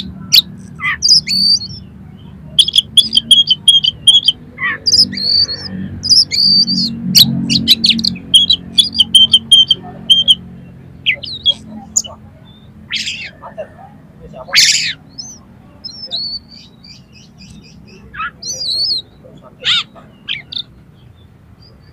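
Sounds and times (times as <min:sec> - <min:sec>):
bird singing: 0:00.0 - 0:21.9.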